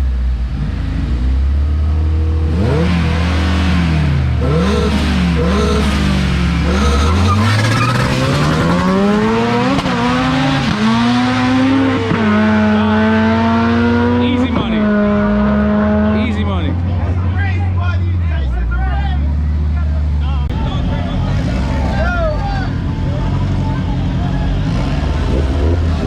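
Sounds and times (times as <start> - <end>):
car engine accelerating hard: 0.0 - 17.4, 19.2 - 26.0
car engine idling and revving: 0.0 - 26.0.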